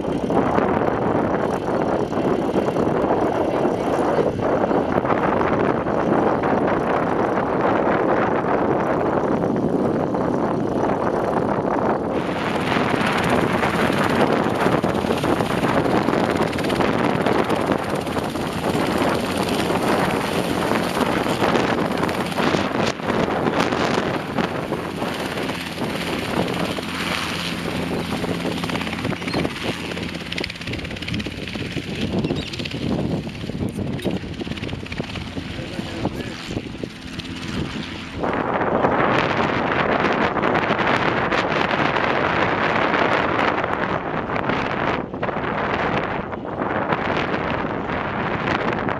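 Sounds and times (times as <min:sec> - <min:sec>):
helicopter engine and rotor noise: 0:00.0 - 0:48.9.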